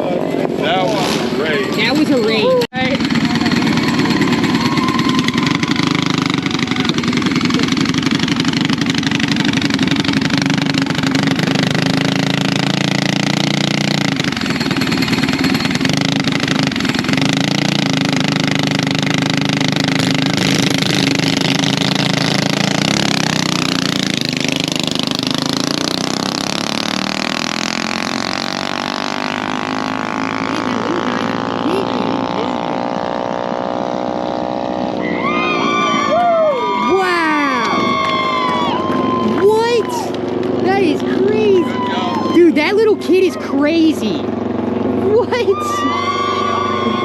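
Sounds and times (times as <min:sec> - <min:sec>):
engine revving up and down: 0:00.0 - 0:41.6
motorbike engines idling: 0:00.0 - 0:47.0.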